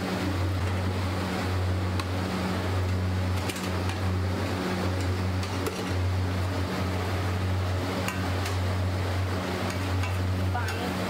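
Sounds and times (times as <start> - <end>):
low hum and rushing noise: 0.0 - 11.0.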